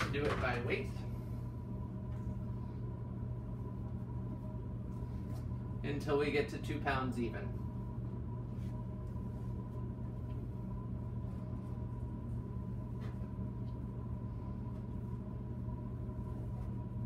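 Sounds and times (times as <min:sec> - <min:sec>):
high steady whine: 0:00.0 - 0:17.0
low mechanical hum: 0:00.0 - 0:17.0.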